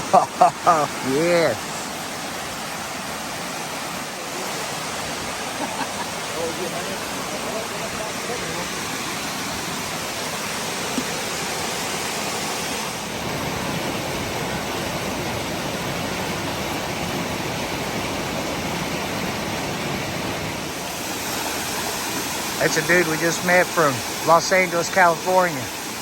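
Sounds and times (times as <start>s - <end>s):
water rushing in a creek: 0.0s - 26.0s.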